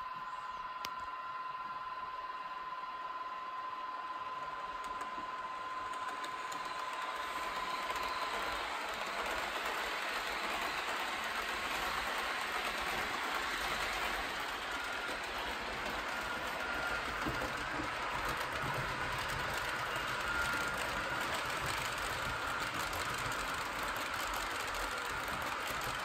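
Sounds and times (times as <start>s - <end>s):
model train rolling on track: 0.0s - 26.0s.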